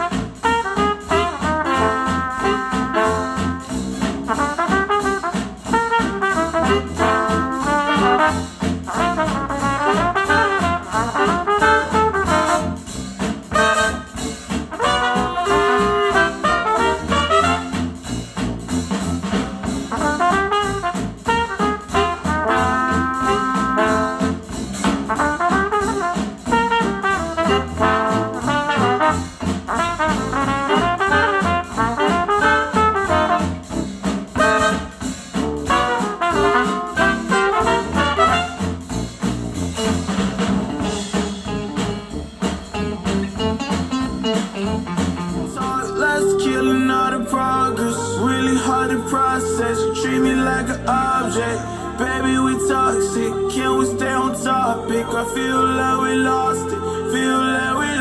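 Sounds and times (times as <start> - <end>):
jazz with trumpet and trombone: 0.0 - 58.0.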